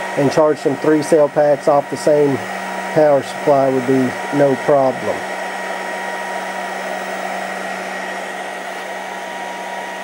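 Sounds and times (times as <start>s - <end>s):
charger cooling fan whirring: 0.0s - 10.0s.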